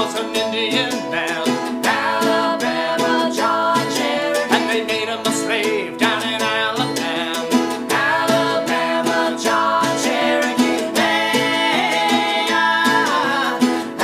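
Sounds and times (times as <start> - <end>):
acoustic string band playing: 0.0 - 14.0.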